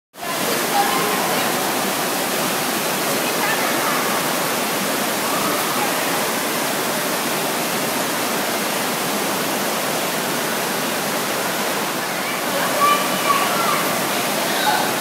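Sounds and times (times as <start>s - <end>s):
rushing water: 0.2s - 15.0s.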